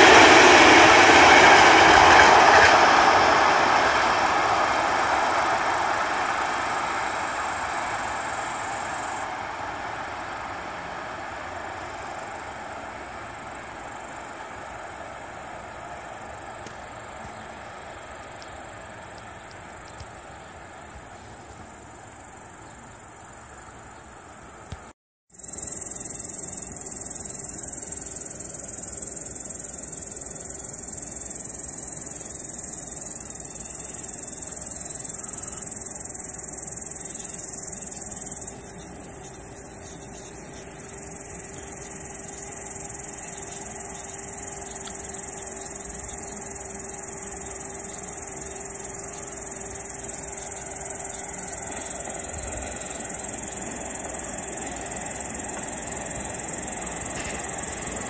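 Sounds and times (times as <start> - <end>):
crickets trilling: 0.0 - 58.0
distant freight train rumble: 0.0 - 58.0.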